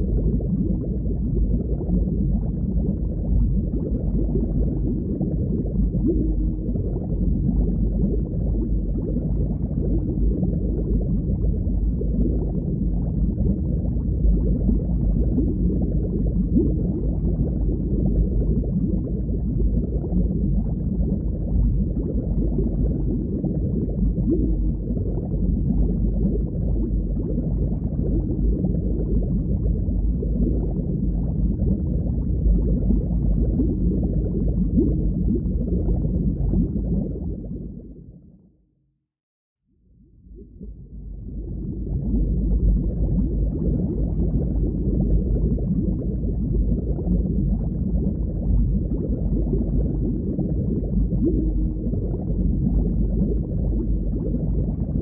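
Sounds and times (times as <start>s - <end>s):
muffled underwater water rush: 0.0s - 38.6s, 39.9s - 55.0s.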